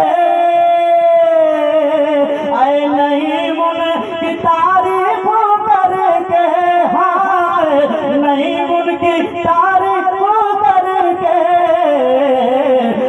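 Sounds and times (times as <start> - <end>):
man singing over pa system: 0.0 - 13.0.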